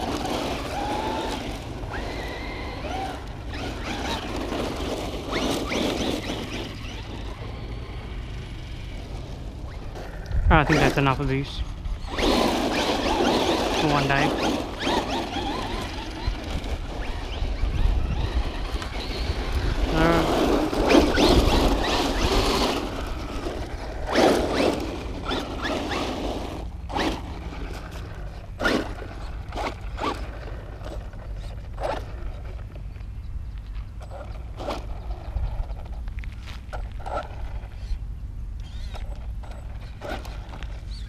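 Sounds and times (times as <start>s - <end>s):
toy truck electric motor: 0.0s - 32.7s, 34.0s - 38.0s, 38.6s - 41.0s
tyres on dirt: 0.0s - 41.0s
wind rumble on microphone: 0.0s - 41.0s.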